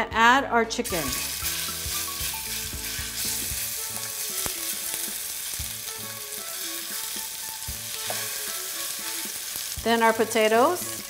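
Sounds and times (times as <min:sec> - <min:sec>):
chicken sizzling in hot oil: 0:00.8 - 0:11.0.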